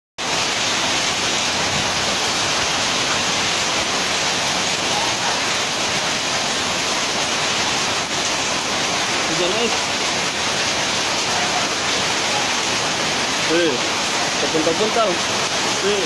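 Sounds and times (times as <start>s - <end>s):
heavy rain and hail pelting: 0.2s - 16.0s.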